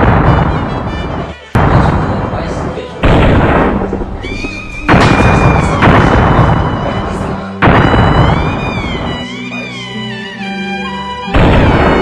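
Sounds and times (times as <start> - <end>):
explosion booms: 0.0 - 9.2, 11.4 - 12.0.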